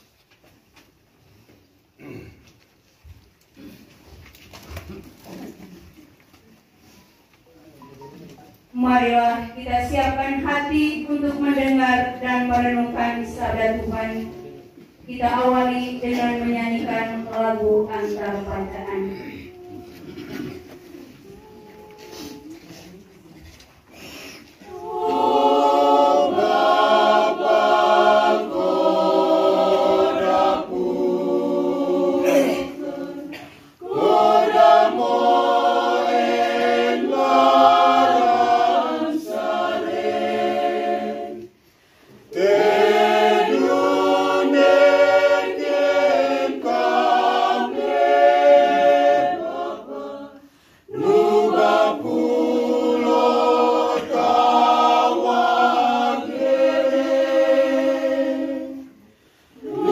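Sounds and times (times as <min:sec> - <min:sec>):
mixed choir singing a hymn: 0:08.8 - 0:23.0, 0:24.0 - 0:59.9.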